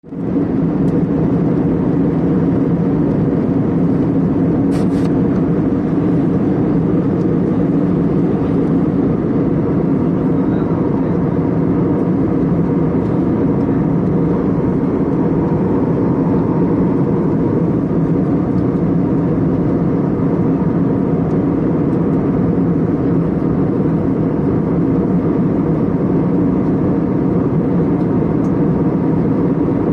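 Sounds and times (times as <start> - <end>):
airliner cabin engine drone: 0.0 - 29.9.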